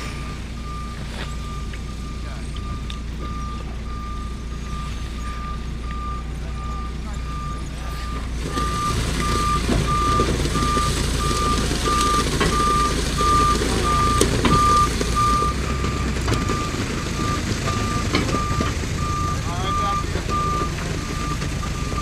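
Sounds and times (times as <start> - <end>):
vehicle backup alarm beeping: 0.0 - 22.0
vehicle engine running: 0.0 - 22.0.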